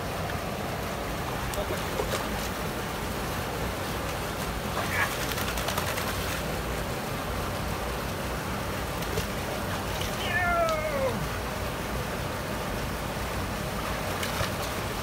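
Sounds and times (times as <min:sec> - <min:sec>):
flowing canal water: 0:00.0 - 0:15.0.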